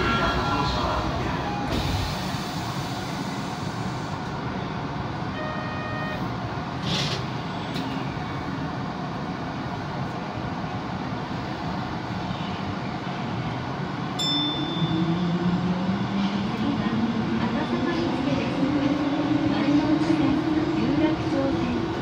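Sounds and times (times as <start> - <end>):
subway train hum: 0.0 - 22.0.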